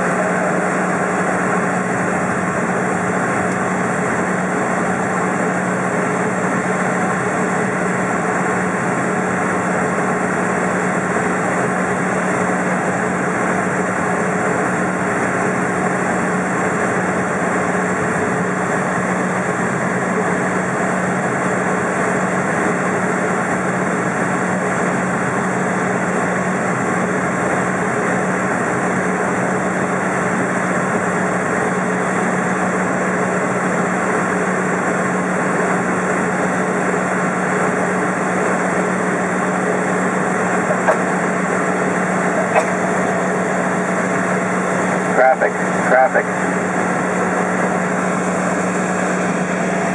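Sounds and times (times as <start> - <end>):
airplane engine and propeller drone: 0.0 - 49.9.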